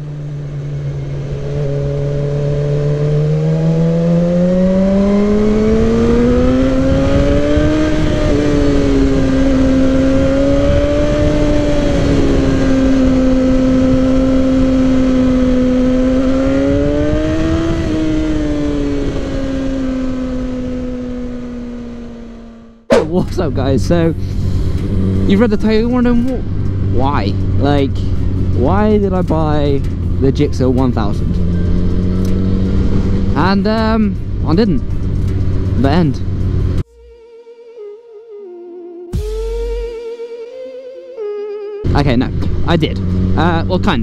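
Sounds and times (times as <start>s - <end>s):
low wind rumble: 0.0s - 36.9s
motorcycle engine accelerating: 0.0s - 37.0s, 41.8s - 44.0s.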